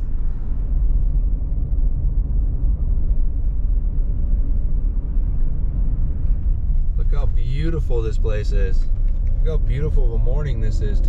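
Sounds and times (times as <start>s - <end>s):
vehicle driving on paved road: 0.0s - 11.0s.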